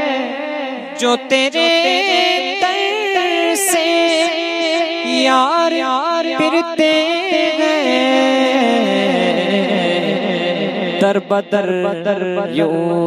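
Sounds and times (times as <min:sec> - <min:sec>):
man singing ornamented phrases: 0:00.0 - 0:13.0.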